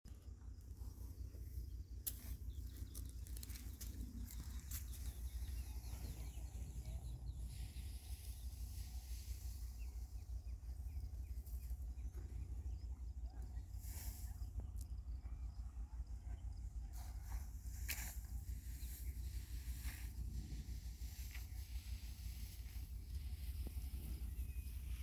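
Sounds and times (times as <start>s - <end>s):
birds chirping: 0.1s - 20.3s, 21.0s - 25.0s
steady low rumble: 0.1s - 25.0s.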